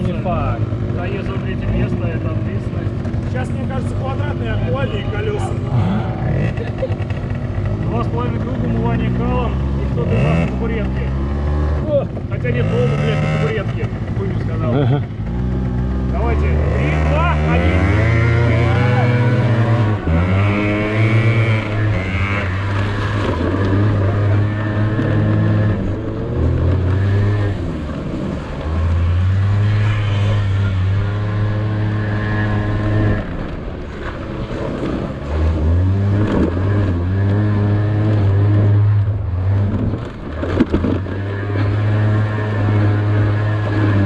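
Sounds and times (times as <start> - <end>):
scooter engine revving: 0.0 - 44.0.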